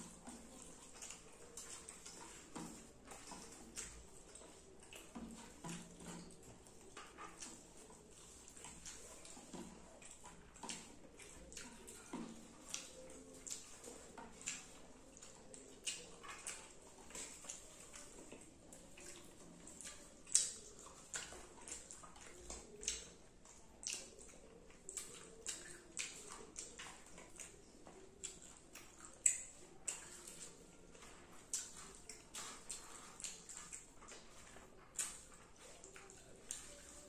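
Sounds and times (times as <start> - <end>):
wet chewing and lip smacks: 0.0 - 37.0.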